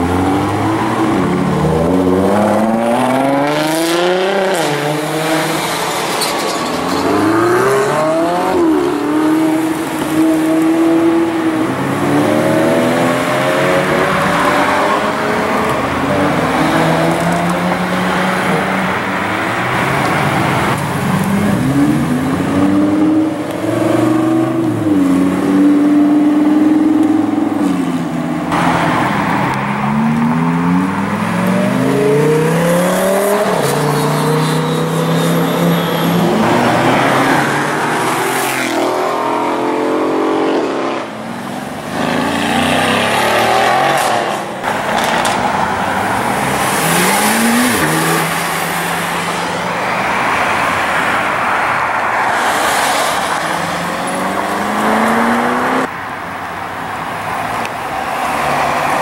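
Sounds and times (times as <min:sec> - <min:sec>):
sports cars accelerating: 0:00.0 - 0:06.2, 0:06.8 - 0:56.3.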